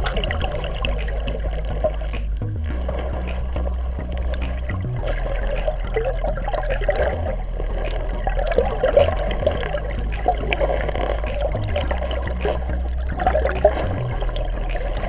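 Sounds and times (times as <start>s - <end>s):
low steady hum: 0.0s - 15.0s
water splashing and trickling: 0.0s - 15.0s.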